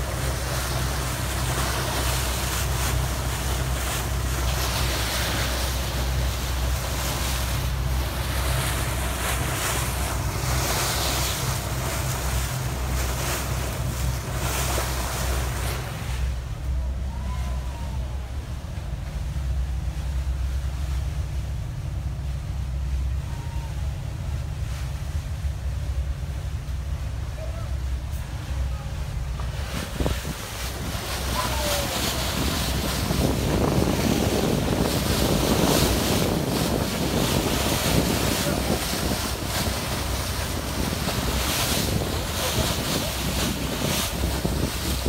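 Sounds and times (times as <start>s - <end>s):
ferry engine rumble: 0.0s - 45.0s
rushing wind and water: 0.0s - 45.0s.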